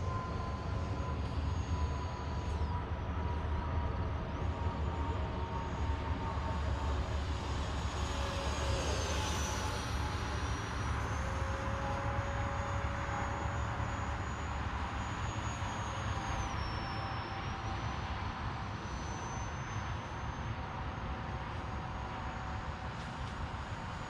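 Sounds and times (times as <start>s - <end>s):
model jet fan whine: 0.0s - 24.0s.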